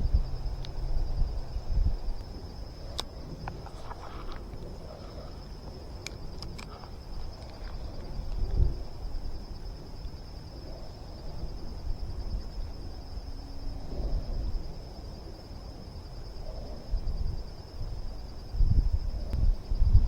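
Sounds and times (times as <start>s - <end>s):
steady high-pitched whine: 0.0s - 20.0s
wind rumble on microphone: 0.0s - 20.0s.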